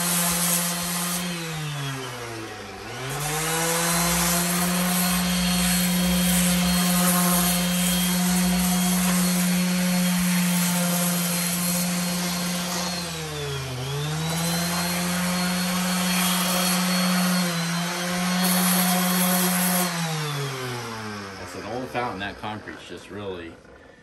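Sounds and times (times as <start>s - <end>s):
electric sander on concrete: 0.0s - 24.0s.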